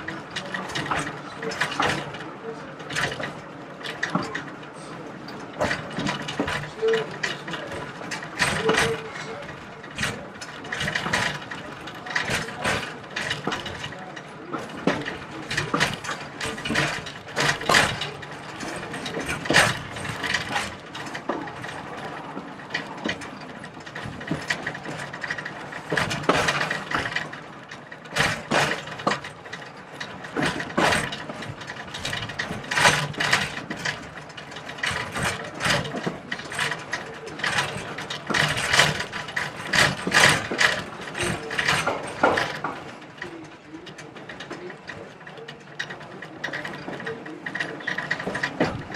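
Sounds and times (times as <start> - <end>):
steady train running noise: 0.0 - 48.9
train wheels clanking and rattling: 0.0 - 48.9.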